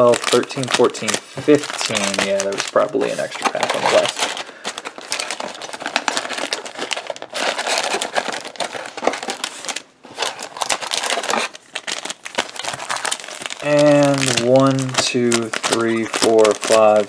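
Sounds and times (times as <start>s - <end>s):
plastic wrappers crinkling: 0.0s - 17.0s.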